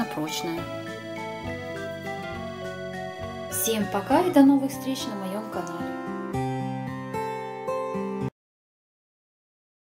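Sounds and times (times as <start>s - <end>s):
plucked string music: 0.0s - 8.3s.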